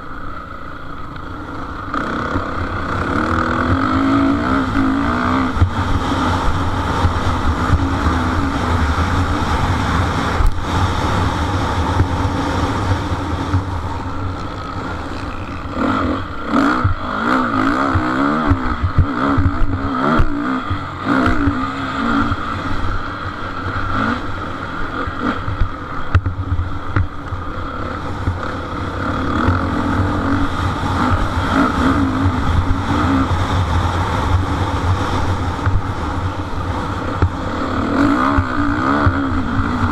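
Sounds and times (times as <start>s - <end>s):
motorbikes racing: 1.2s - 39.9s.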